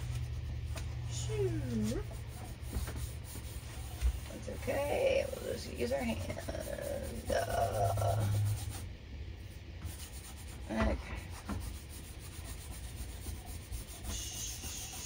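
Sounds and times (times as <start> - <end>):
hand rubbing on whiteboard: 0.0 - 15.0.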